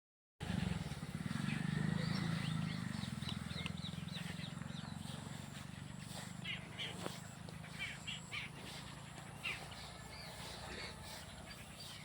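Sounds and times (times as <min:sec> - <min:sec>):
small birds chirping: 0:00.4 - 0:12.0.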